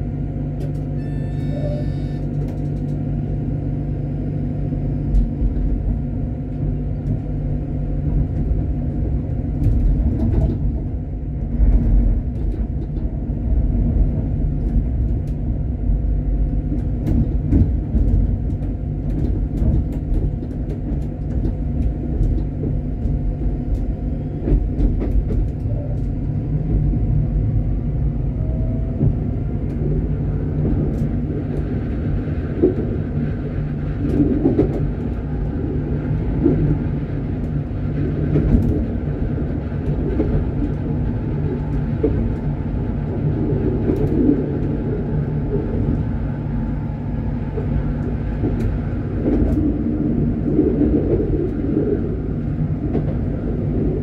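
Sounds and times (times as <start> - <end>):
tram motor hum: 0.0 - 54.0
tram wheels rumbling on rail: 0.0 - 54.0.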